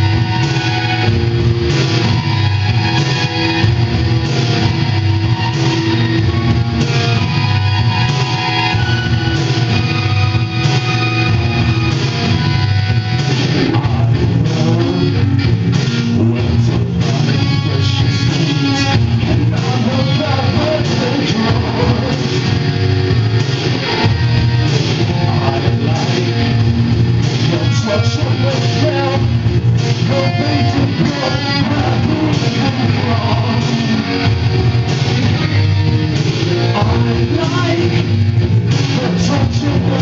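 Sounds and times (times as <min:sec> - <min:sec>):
electric guitar: 0:00.0 - 0:40.0
heavy bass line: 0:00.0 - 0:40.0
live band playing: 0:00.0 - 0:40.0.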